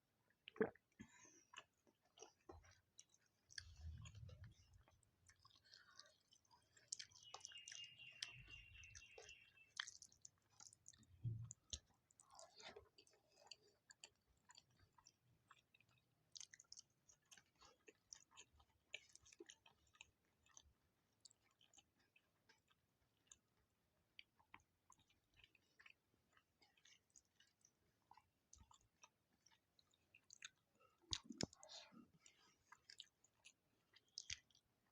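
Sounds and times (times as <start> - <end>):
chewing and mouth clicks: 0.3 - 34.9.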